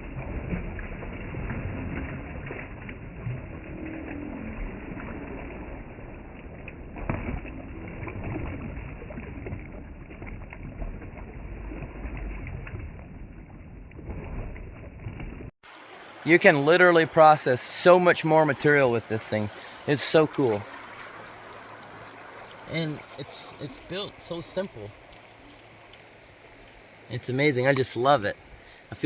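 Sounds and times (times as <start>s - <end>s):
water and gravel sloshing rattling: 0.0s - 29.0s.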